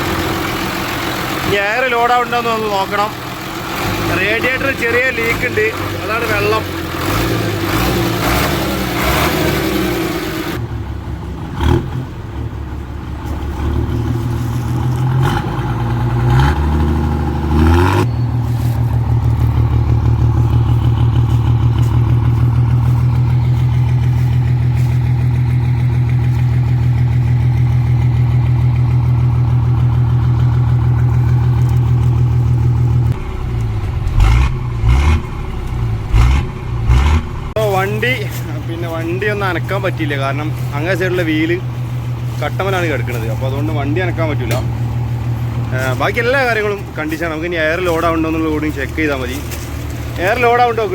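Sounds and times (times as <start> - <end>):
diesel bus engine revving: 0.0 - 50.9
engine knocks: 0.0 - 50.9.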